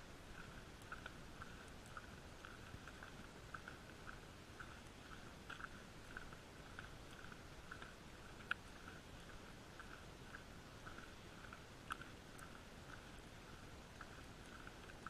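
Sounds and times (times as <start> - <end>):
footsteps crunching on dirt trail: 0.0 - 15.0.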